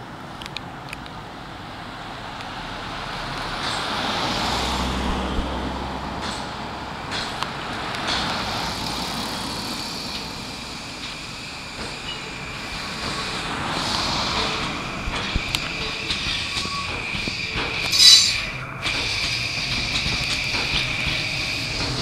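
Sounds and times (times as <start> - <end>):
electric train on tracks: 0.0 - 22.0
road traffic passing: 0.0 - 22.0.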